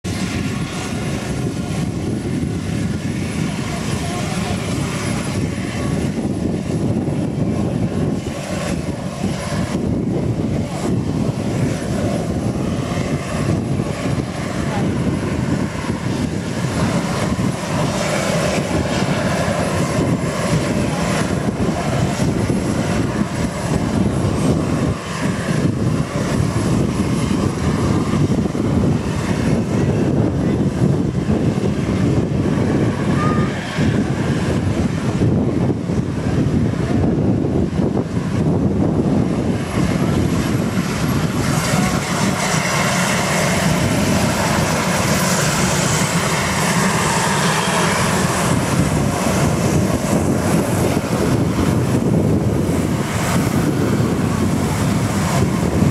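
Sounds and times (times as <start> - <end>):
helicopter turbine engines whining: 0.0 - 55.9.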